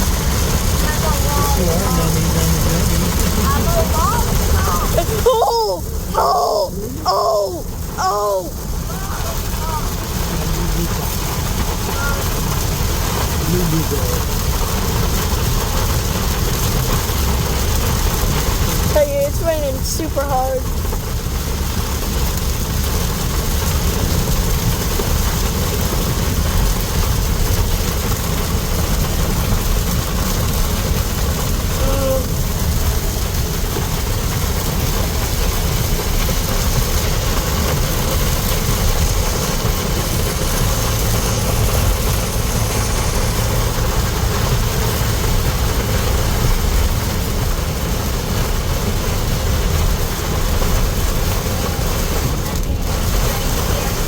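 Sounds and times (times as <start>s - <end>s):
low rumble: 0.0s - 19.8s, 20.6s - 54.0s
heavy rain pouring: 0.0s - 54.0s.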